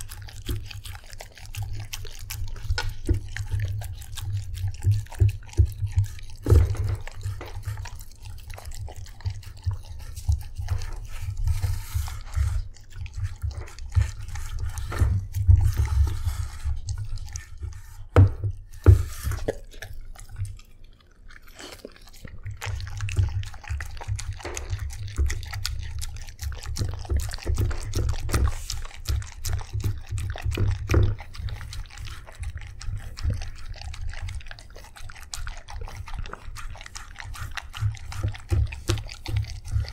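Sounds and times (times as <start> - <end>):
dog eating from metal bowl: 0.0 - 39.9.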